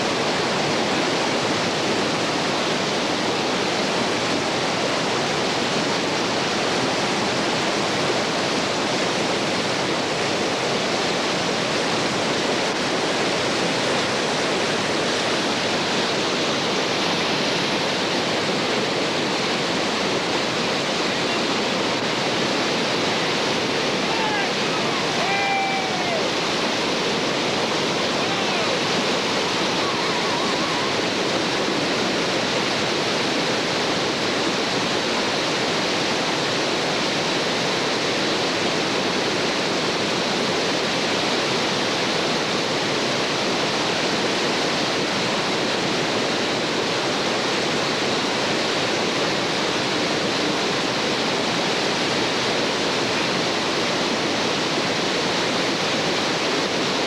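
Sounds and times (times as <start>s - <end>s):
whitewater rapids rushing: 0.0s - 57.0s.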